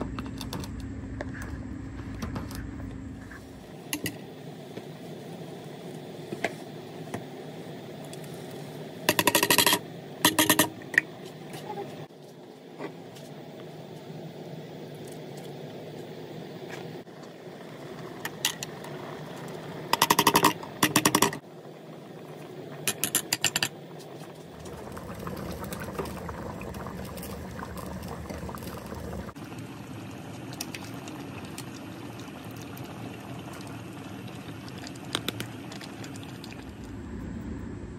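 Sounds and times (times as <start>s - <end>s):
broth boiling and bubbling: 0.0s - 37.9s.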